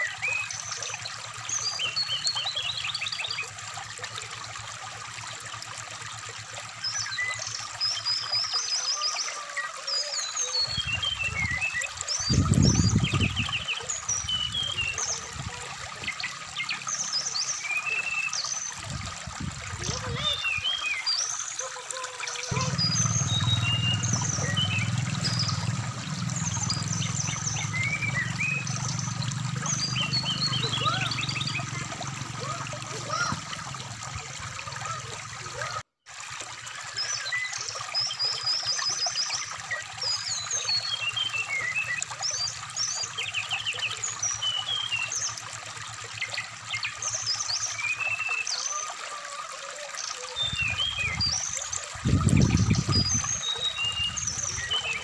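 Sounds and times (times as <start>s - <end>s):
bird song chirps and trills: 0.0s - 3.6s, 6.7s - 35.8s, 36.7s - 55.0s
stream babbling: 0.0s - 55.0s.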